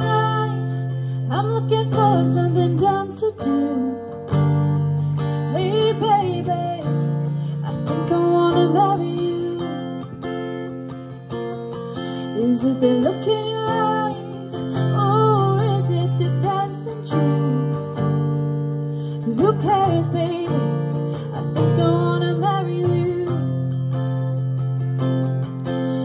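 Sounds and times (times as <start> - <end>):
strummed acoustic guitar: 0.0 - 26.0
woman singing into a microphone: 0.0 - 26.0.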